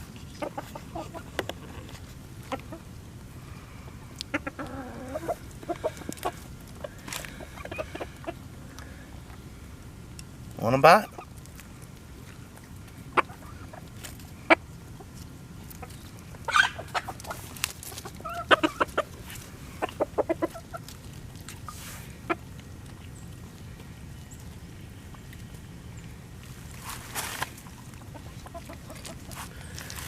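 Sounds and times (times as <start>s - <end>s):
chickens clucking: 0.0s - 9.6s, 10.8s - 11.4s, 12.2s - 30.0s.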